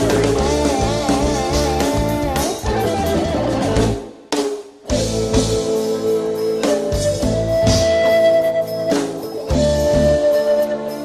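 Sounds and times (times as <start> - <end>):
live band music with drums: 0.0 - 11.0.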